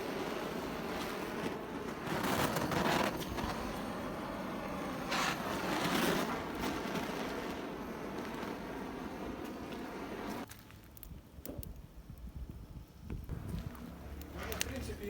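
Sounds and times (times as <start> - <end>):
campfire flames rushing: 0.0 - 15.0.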